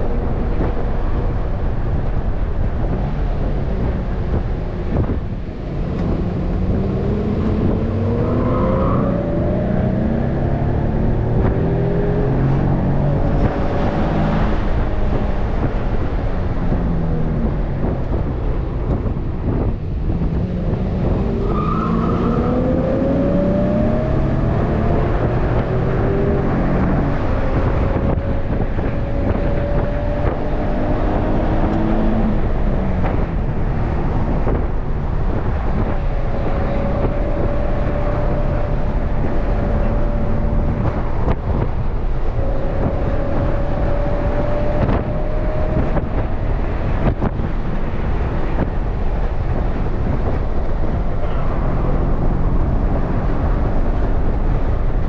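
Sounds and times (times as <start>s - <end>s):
car engine accelerating: 0.0s - 55.0s
wind rush: 0.0s - 55.0s.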